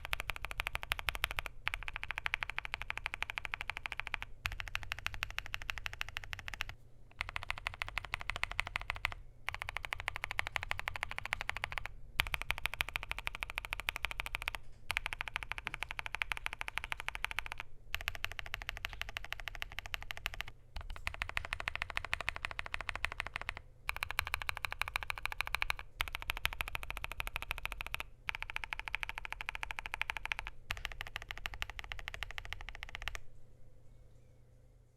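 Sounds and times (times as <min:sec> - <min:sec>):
fast typing on mechanical keyboard: 0:00.0 - 0:33.2.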